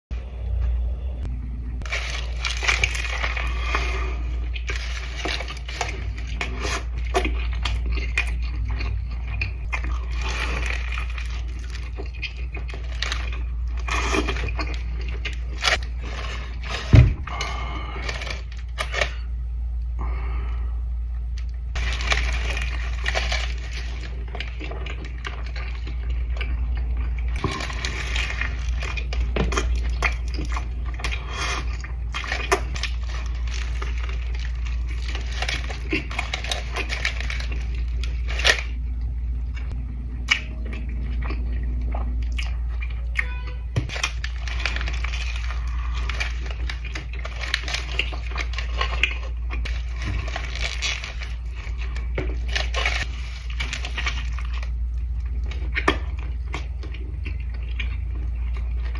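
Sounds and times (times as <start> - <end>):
low hum: 0.0 - 58.9
chewing and biting: 1.8 - 19.3, 21.4 - 38.8, 39.5 - 58.9.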